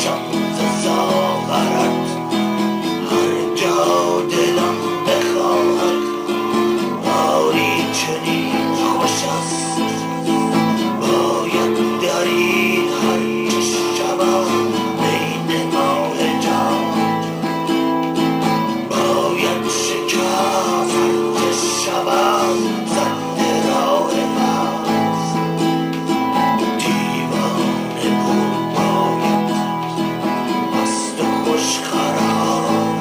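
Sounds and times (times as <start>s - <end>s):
person singing: 0.0s - 33.0s
strummed acoustic guitar: 0.0s - 33.0s.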